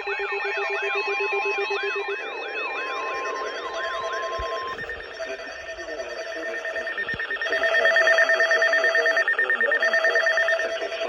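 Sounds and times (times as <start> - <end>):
pulsing alarm beep: 0.0 - 11.0.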